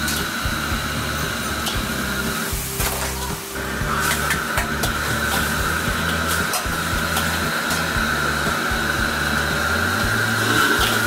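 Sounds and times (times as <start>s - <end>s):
burner and fan noise: 0.0s - 11.0s
steel bowl scraping wok: 0.0s - 11.0s.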